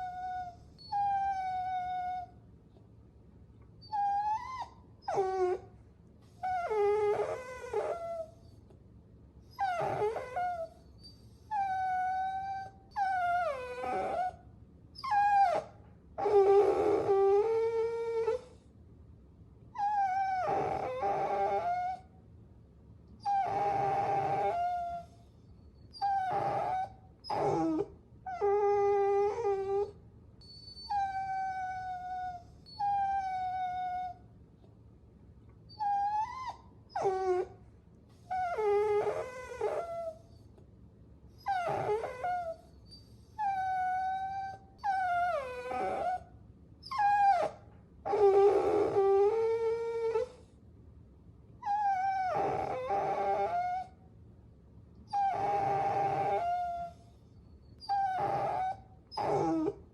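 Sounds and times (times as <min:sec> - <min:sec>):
puppies whining: 0:00.0 - 0:02.3, 0:03.8 - 0:05.7, 0:06.3 - 0:08.6, 0:09.5 - 0:14.4, 0:15.0 - 0:18.6, 0:19.8 - 0:22.0, 0:23.2 - 0:34.2, 0:35.7 - 0:37.6, 0:38.2 - 0:40.5, 0:41.4 - 0:50.5, 0:51.6 - 0:54.0, 0:55.1 - 0:59.9.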